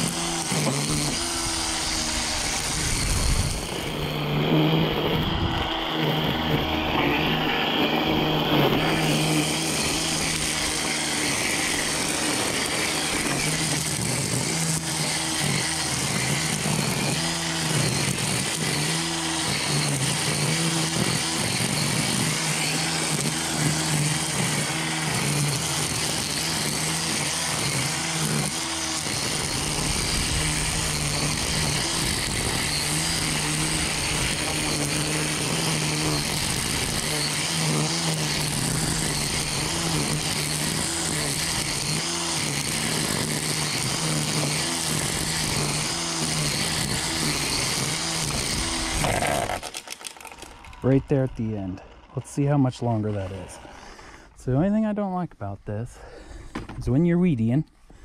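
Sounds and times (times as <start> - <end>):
string trimmer cutting grass: 0.0 - 58.0.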